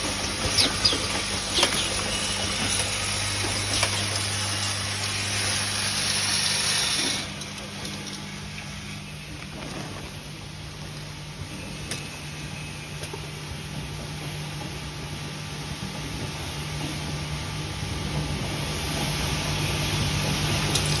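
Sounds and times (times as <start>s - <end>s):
factory machinery humming: 0.0s - 21.0s.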